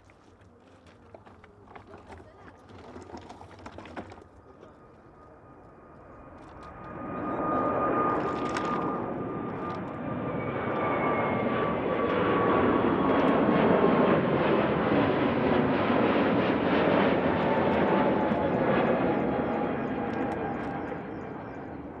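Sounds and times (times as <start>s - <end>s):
jet engine whine: 3.7s - 22.0s
jet engines passing: 4.4s - 22.0s.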